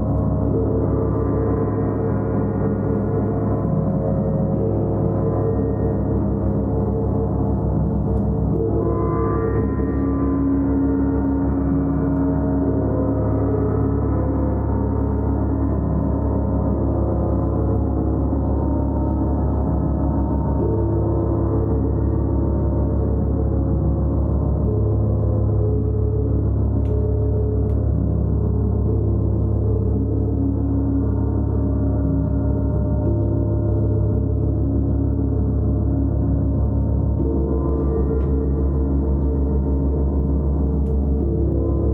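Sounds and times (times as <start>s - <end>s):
sustained gong wash: 0.0s - 41.9s.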